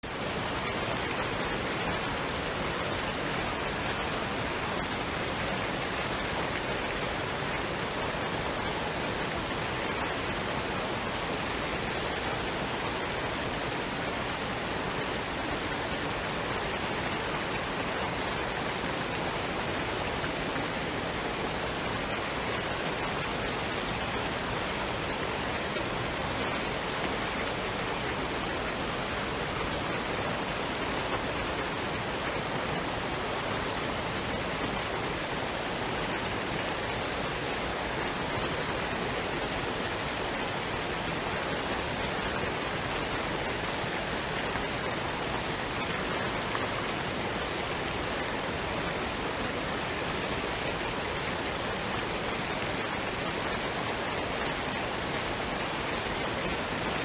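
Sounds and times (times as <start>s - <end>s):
waterfall rushing water: 0.0s - 57.0s.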